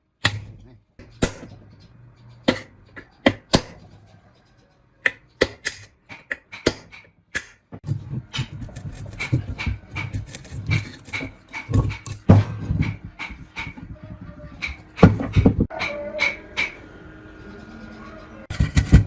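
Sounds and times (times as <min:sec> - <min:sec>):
hand tools clicking and knocking: 0:00.2 - 0:13.9, 0:14.6 - 0:16.8.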